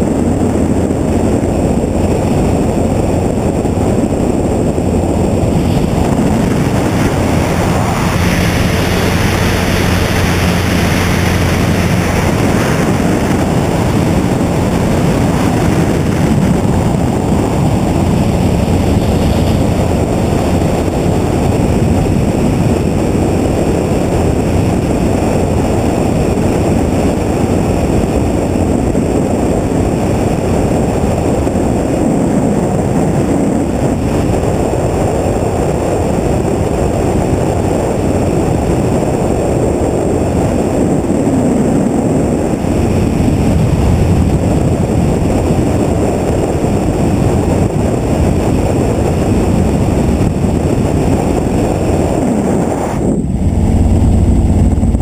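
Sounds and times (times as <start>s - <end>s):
helicopter rotor and engine: 0.0s - 55.0s
wind on microphone: 0.0s - 55.0s.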